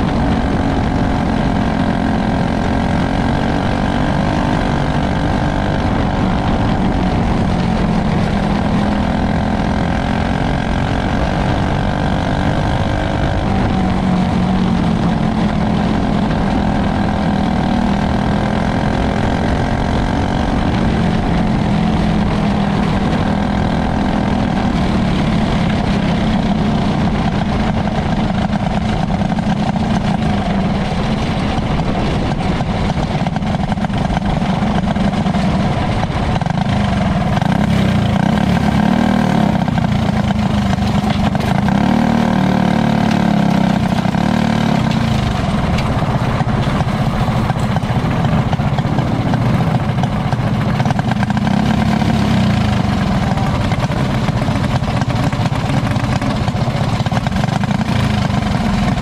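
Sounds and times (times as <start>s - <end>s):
racing car engine at speed: 0.0s - 59.0s.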